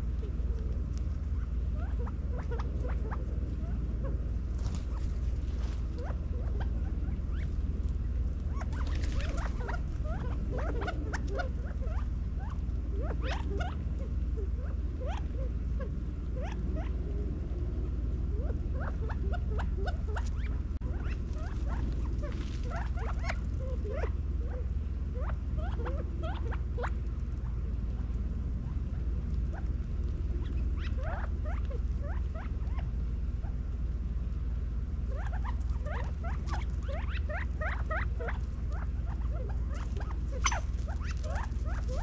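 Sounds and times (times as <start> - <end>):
quail chirping: 0.0 - 17.4, 18.3 - 33.6, 35.1 - 42.0
steady low rumble: 0.0 - 42.0.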